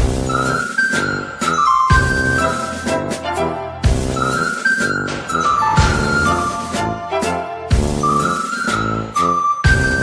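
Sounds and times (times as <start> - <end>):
whistled melody over a beat: 0.0 - 10.0.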